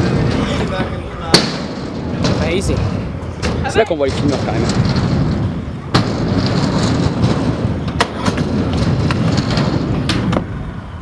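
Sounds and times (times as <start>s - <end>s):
scooter wheels rolling: 1.9s - 11.0s.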